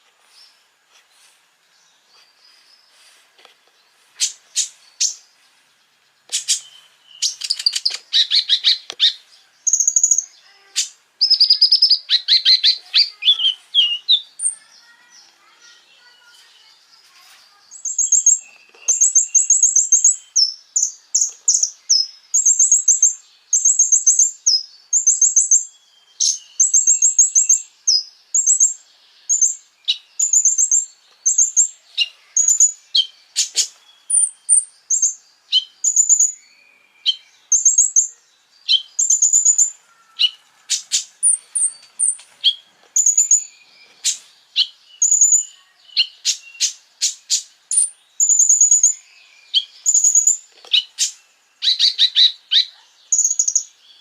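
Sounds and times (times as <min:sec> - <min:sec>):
songbird chirping trills: 0:00.0 - 0:54.0
sharp ticking bird notes: 0:05.9 - 0:16.9, 0:17.7 - 0:54.0.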